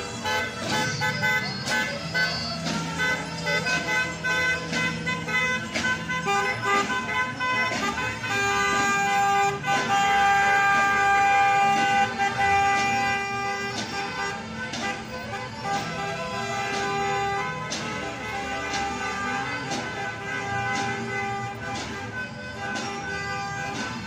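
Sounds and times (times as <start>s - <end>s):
car horns honking: 0.0s - 24.0s
traffic noise: 0.0s - 24.0s.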